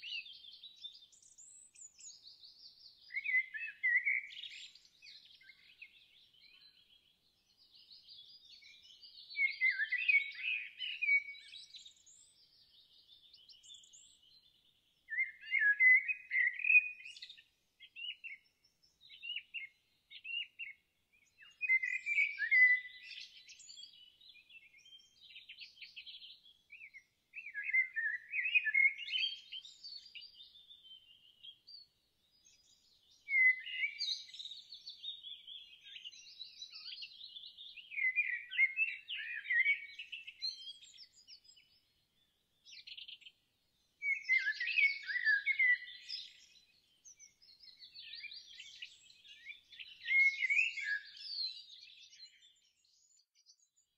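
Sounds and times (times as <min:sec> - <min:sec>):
songbirds chirping and warbling: 0:00.0 - 0:53.9.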